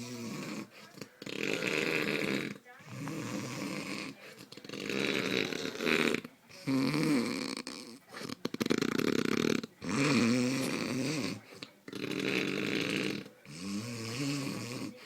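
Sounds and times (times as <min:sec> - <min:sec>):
man snoring loudly: 0:00.0 - 0:15.0.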